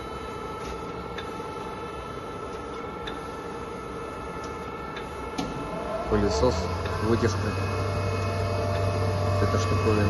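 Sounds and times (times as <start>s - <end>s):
grinder mechanical hum: 0.0s - 10.0s.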